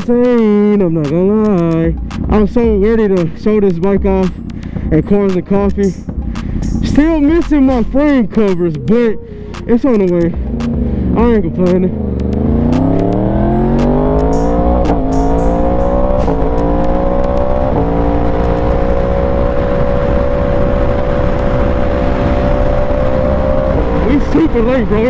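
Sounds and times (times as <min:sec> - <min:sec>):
motorcycle engine accelerating: 0:00.0 - 0:09.0, 0:09.6 - 0:25.0.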